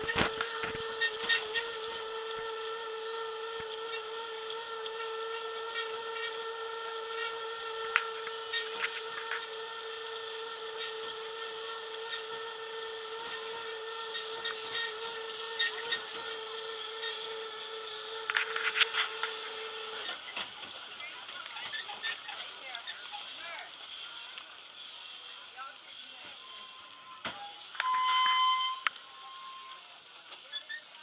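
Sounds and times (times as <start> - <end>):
tram drive whining: 0.0 - 30.8.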